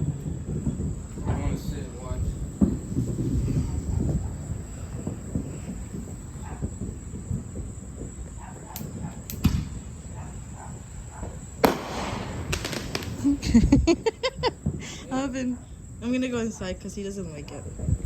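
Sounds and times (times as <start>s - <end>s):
crickets chirping: 0.0s - 18.0s
fireworks popping: 0.0s - 18.0s.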